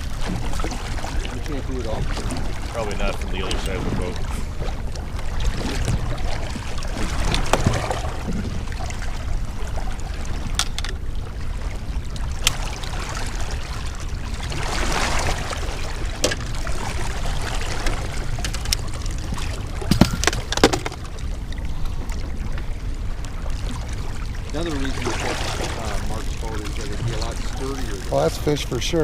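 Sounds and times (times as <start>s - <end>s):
boat engine rumble: 0.0s - 29.0s
water noise: 0.0s - 29.0s.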